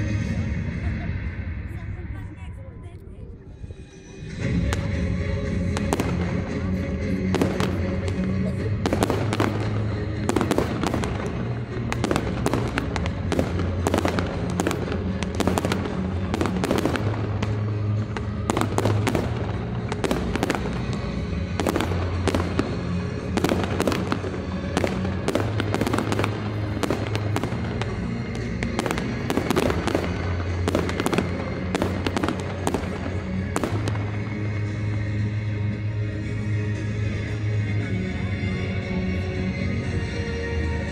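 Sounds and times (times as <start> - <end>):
fireworks bangs and crackles: 4.3 - 39.2.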